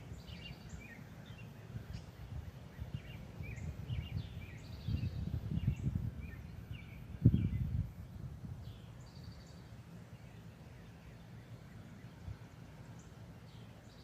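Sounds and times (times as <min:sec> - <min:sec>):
low uneven rumble: 0:00.0 - 0:14.0
small songbirds chirping: 0:00.0 - 0:14.0.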